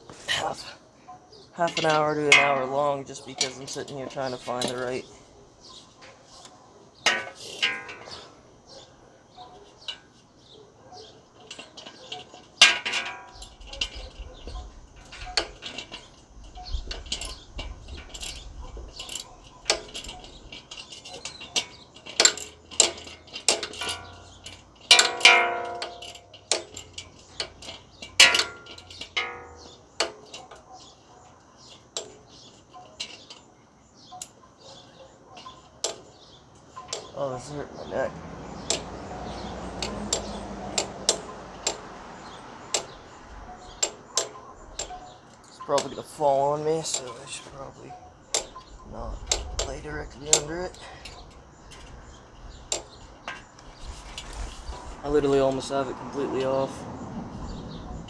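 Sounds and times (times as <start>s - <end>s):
metal hand tools clinking: 1.5s - 54.5s.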